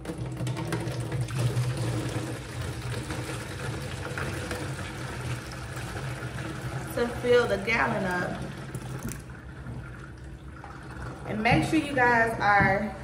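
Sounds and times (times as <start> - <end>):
juice pouring through a funnel: 0.0 - 11.6.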